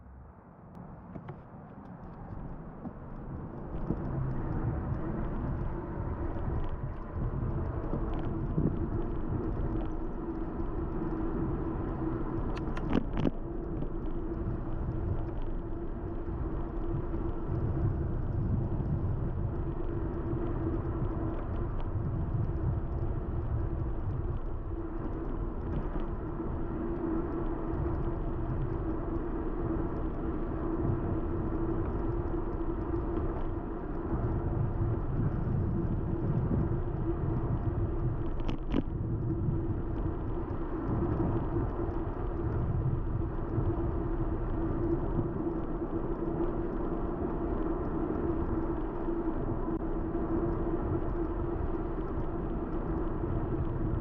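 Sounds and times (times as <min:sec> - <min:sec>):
constant hum: 0:00.0 - 0:54.0
wind and road rumble: 0:00.0 - 0:54.0.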